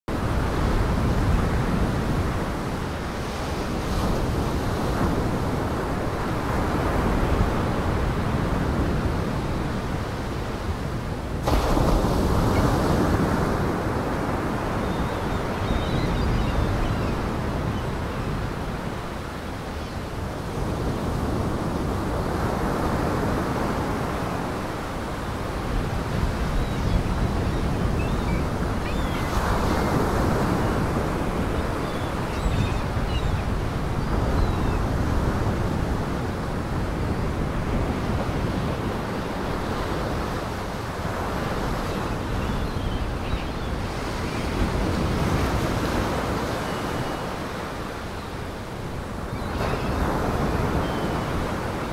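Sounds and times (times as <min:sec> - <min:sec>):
waves breaking on a beach: 0:00.1 - 0:51.9.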